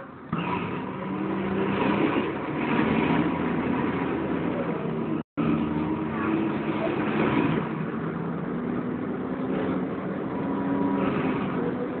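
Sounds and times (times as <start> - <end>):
bus engine and fan drone: 0.0 - 12.0
road noise: 0.0 - 12.0.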